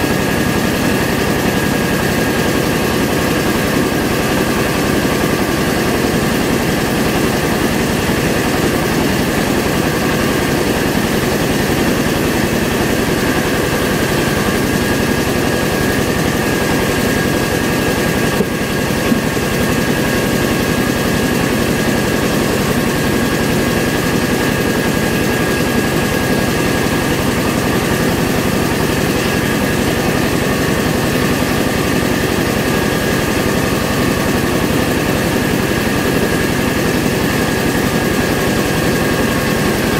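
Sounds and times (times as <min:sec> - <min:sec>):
rice mill machine hissing and whining: 0:00.0 - 0:39.9.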